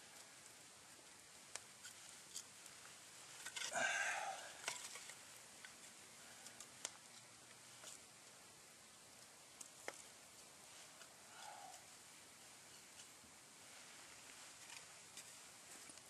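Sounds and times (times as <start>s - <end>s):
campfire crackling pops: 0.2s - 13.2s
firewood rustling scrape: 1.0s - 8.3s, 9.5s - 16.0s.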